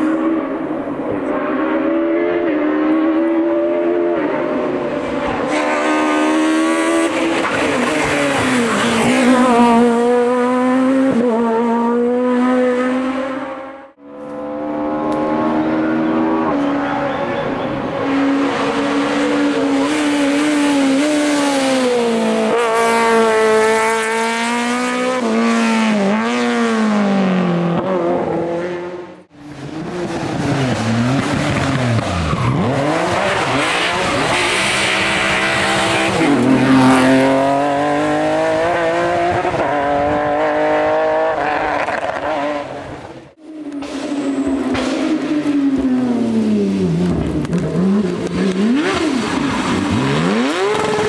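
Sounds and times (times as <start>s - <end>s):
racing car engines revving: 0.0s - 51.0s.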